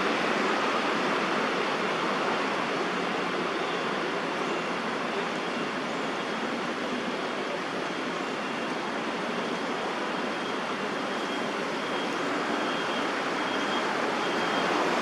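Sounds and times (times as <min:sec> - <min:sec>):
distant city traffic roar: 0:00.0 - 0:15.0.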